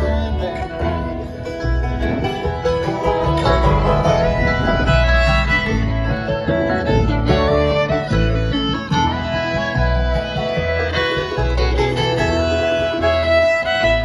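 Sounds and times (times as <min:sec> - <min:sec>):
banjo picking: 0:00.0 - 0:14.0
bass: 0:00.0 - 0:14.0
fiddle: 0:00.0 - 0:14.0
guitar picking: 0:00.0 - 0:14.0.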